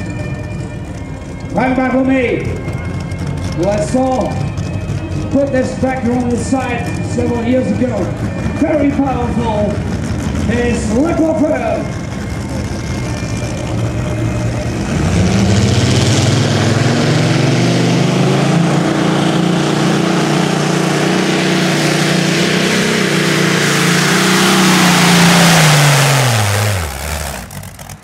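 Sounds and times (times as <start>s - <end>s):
tractor engine at full throttle: 0.0s - 28.0s.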